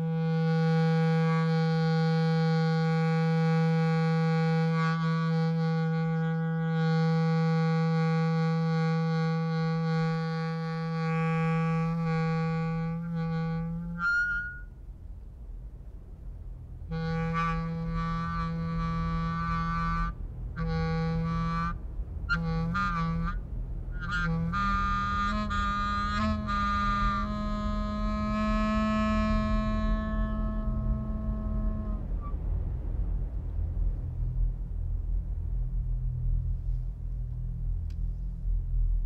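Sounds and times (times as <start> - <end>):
low drone with overtones: 0.0 - 39.0
low rumble: 0.0 - 39.0.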